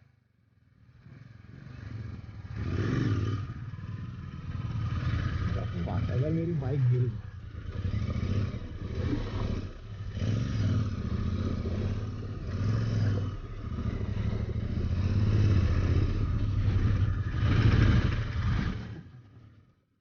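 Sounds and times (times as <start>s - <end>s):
motorcycle engine revving: 0.0s - 19.7s.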